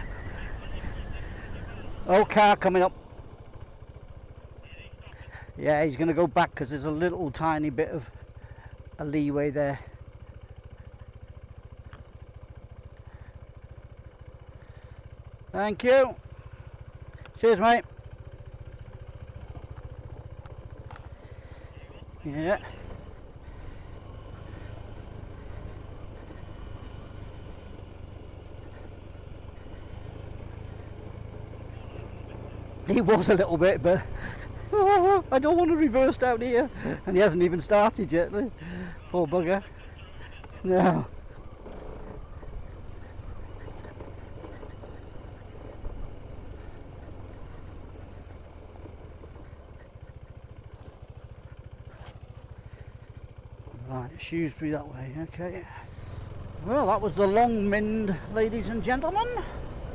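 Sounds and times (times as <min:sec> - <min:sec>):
motorcycle engine running: 0:00.0 - 0:59.9
road and wind noise: 0:00.0 - 0:59.9.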